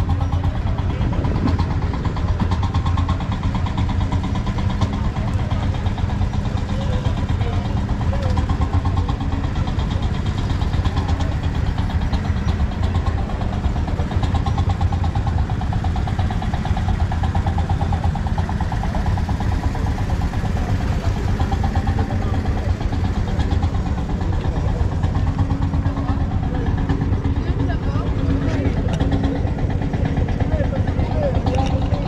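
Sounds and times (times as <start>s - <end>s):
tractor engine idling: 0.0s - 32.0s.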